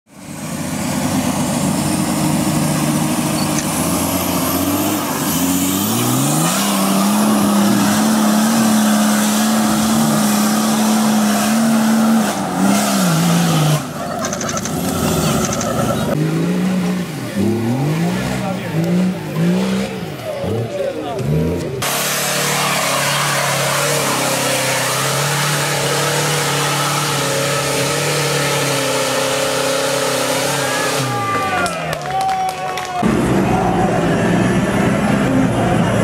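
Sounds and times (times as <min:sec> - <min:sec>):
off-road engines revving: 0:00.2 - 0:32.1, 0:32.9 - 0:36.0.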